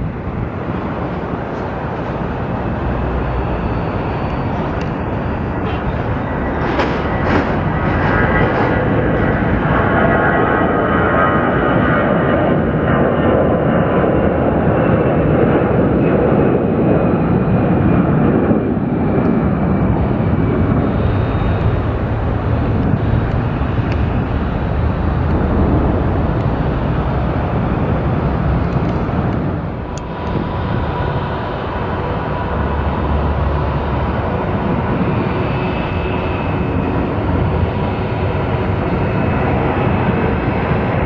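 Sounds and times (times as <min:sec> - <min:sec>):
jet engines roaring with whine: 0:00.0 - 0:41.0.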